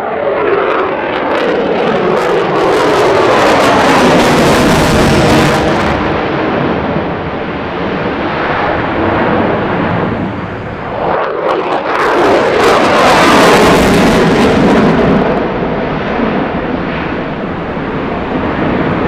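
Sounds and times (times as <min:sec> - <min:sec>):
jet afterburner roar: 0:00.0 - 0:19.0.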